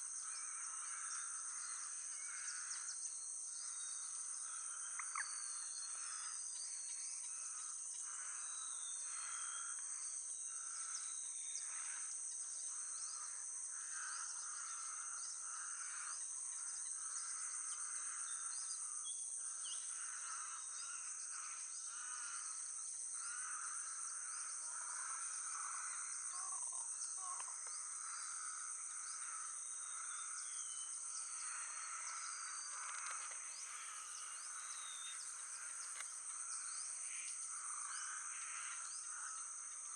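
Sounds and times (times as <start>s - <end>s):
high-pitched insects droning: 0.0s - 39.9s
low pulsing insect chorus: 0.0s - 39.9s.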